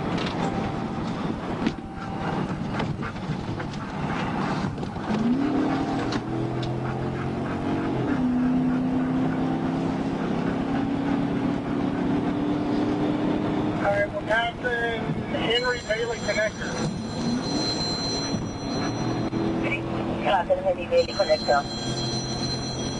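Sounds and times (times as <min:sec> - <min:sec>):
car engine accelerating: 0:00.0 - 0:22.9
road and wind noise: 0:00.0 - 0:22.9.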